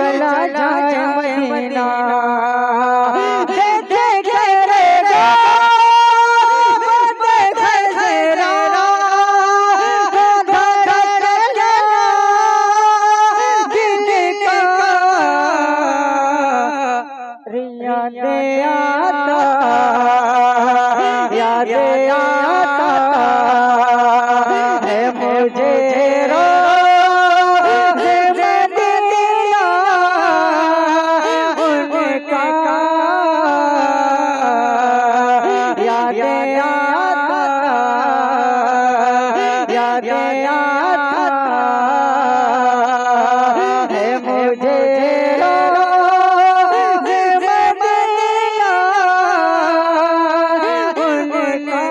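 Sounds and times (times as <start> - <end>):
man singing into microphone: 0.0 - 51.9.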